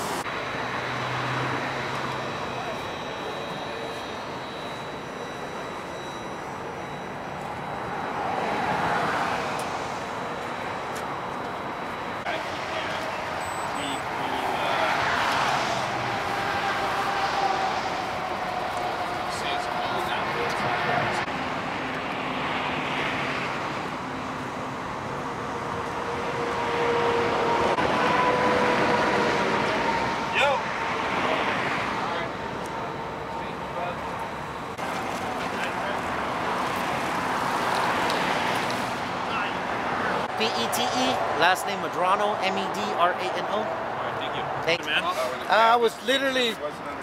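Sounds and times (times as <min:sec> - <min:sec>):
engine humming: 0:00.0 - 0:45.5
vehicle passing: 0:00.0 - 0:46.3.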